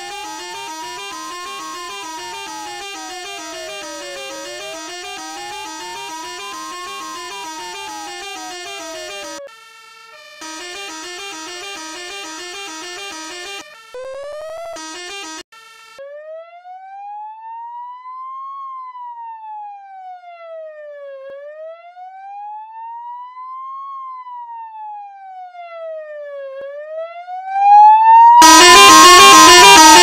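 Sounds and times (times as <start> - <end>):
electronic police siren wail: 0.0 - 30.0.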